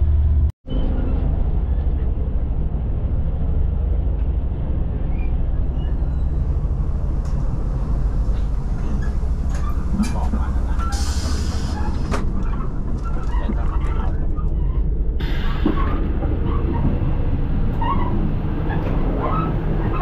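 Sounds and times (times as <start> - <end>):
moving train rumble: 0.0 - 20.0.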